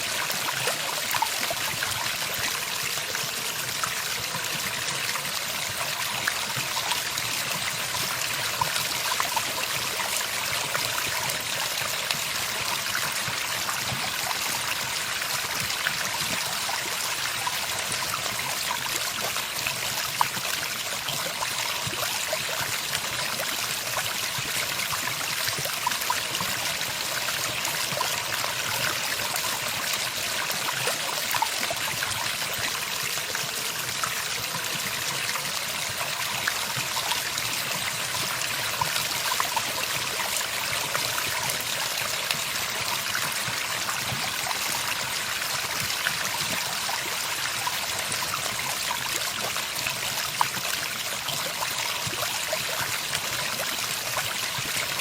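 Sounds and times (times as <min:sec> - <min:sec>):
stream trickling and splashing: 0:00.0 - 0:55.0.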